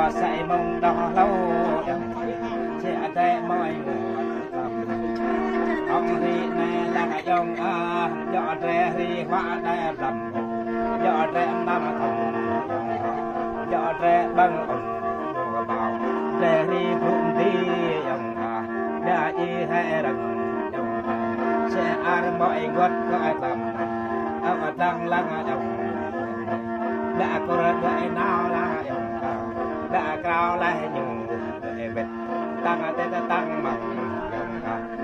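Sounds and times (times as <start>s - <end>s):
mouth organ drone and melody: 0.0s - 35.0s.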